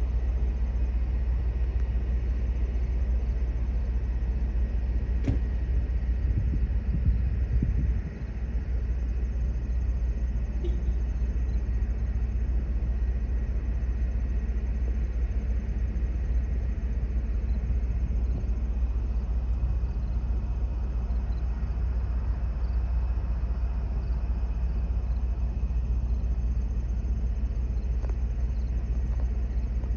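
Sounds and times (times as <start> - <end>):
steady low rumble: 0.0 - 29.9.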